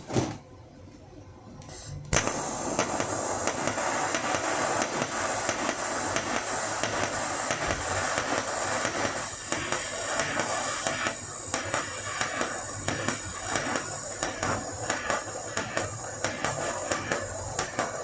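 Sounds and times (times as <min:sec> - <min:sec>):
welding arc crackling hiss: 0:01.7 - 0:18.0.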